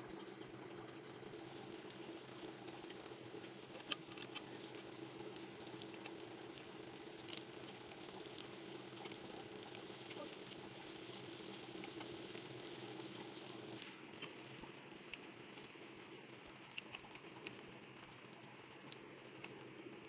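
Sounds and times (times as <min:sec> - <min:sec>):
rice cake frying in oil: 0:00.0 - 0:20.0.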